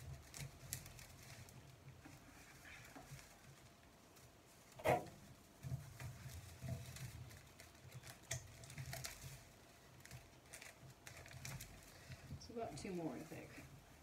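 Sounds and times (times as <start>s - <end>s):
dry stalks rustling and clicking: 0.0s - 14.0s.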